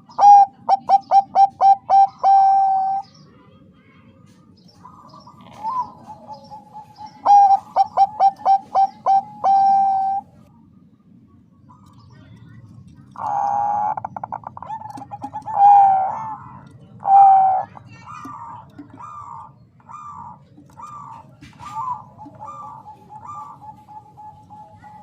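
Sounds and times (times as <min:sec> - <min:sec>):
dove cooing: 0:00.0 - 0:03.1, 0:04.8 - 0:10.5, 0:13.1 - 0:25.0.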